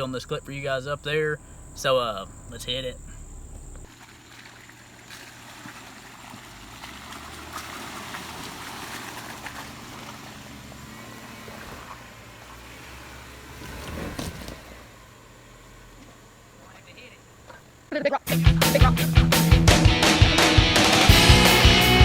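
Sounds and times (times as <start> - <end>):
tyres crackling on rock and gravel: 0.0 - 17.9
distant car engine at low revs: 0.0 - 22.0.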